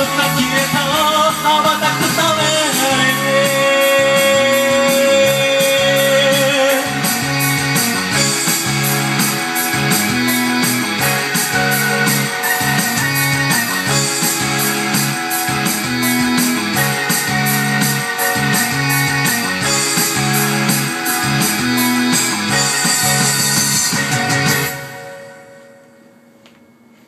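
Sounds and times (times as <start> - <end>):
rock instrumental backing track: 0.0 - 25.7.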